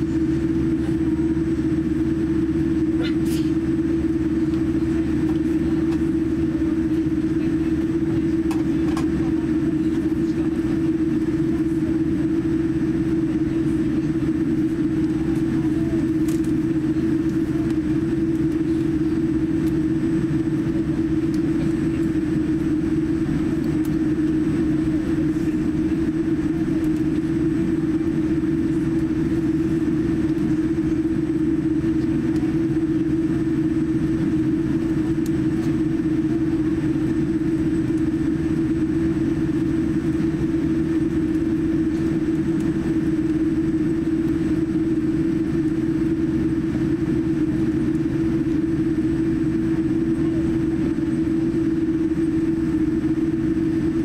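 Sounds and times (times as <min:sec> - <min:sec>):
aircraft cabin rumble: 0:00.0 - 0:54.0
constant low hum: 0:00.0 - 0:54.0.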